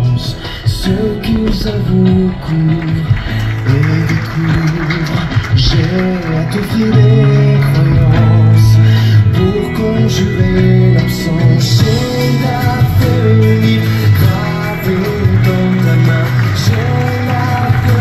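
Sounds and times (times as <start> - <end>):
low held bass notes: 0.0 - 18.0.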